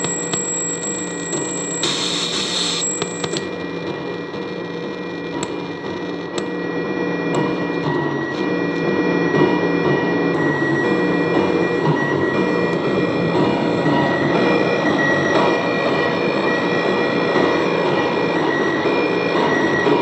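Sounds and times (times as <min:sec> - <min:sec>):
glitchy electronic noise drone: 0:00.0 - 0:20.0.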